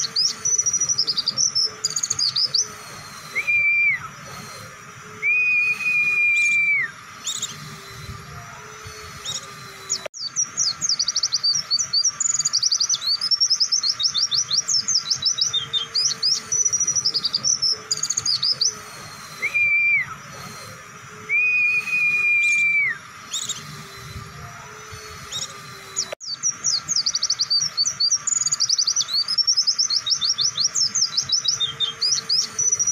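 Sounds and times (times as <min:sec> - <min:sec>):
bird high chirping song: 0:00.0 - 0:32.9
bird whistled notes: 0:00.0 - 0:32.9.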